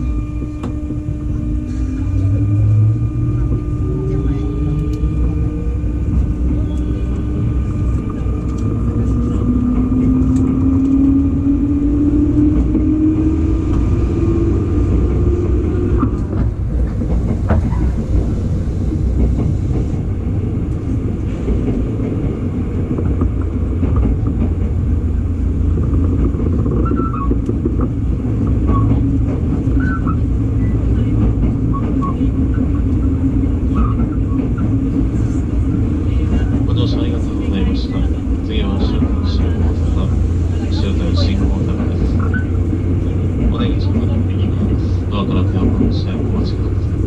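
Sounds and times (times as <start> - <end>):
train motor whine: 0.0 - 47.0
train wheels rumbling on rail: 0.0 - 47.0.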